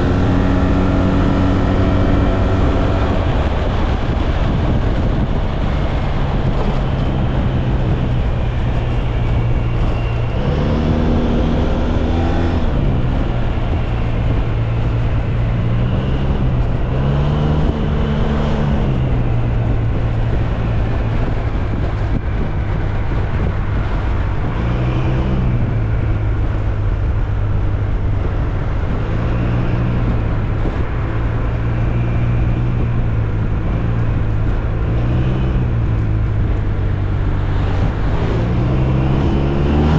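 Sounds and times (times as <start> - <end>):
wind and road rushing noise: 0.0 - 39.9.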